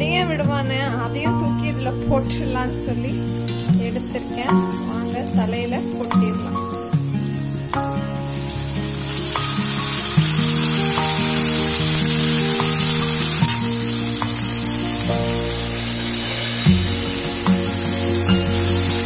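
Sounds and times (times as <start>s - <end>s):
background music with held notes: 0.0s - 19.0s
hot oil sizzling: 0.3s - 19.0s.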